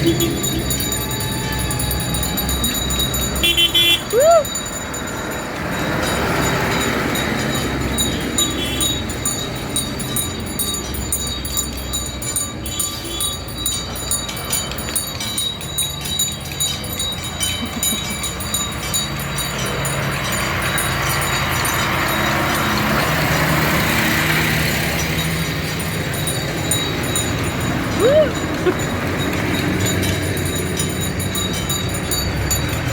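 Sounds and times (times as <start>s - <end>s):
tractors driving past: 0.0s - 32.9s.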